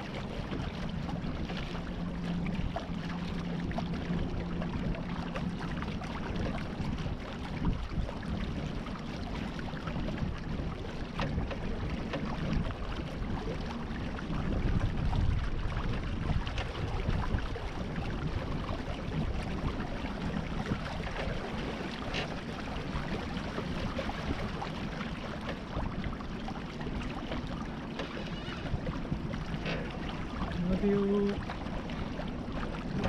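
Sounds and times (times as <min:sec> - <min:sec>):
water rushing along boat hull: 0:00.0 - 0:33.0
wind on microphone: 0:00.0 - 0:33.0.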